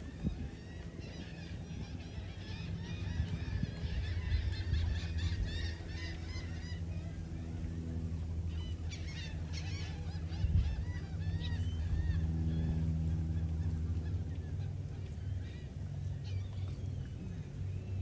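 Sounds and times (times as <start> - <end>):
seagulls calling: 0.0 - 18.0
steady low hum: 0.0 - 18.0.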